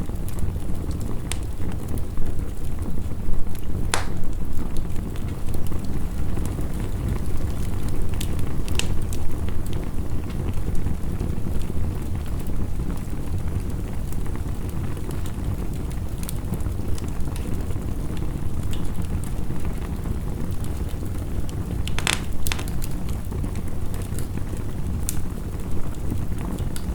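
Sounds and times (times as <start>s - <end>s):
fire crackling and popping: 0.0s - 26.9s
low rumble of fire: 0.0s - 26.9s.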